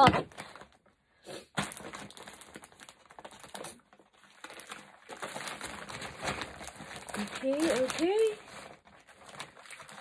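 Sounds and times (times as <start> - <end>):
paper parcel crinkling: 0.0 - 10.0.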